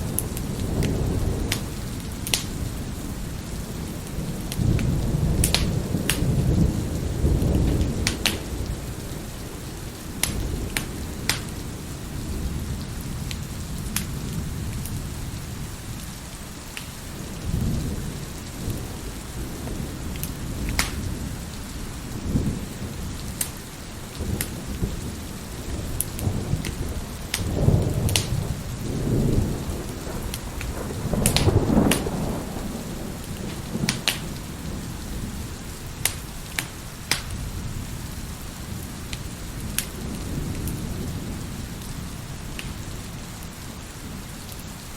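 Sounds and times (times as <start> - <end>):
thunder rolling: 0.0 - 15.6, 17.1 - 43.3
heavy rain: 0.0 - 44.9
wood fire crackling: 0.0 - 44.9.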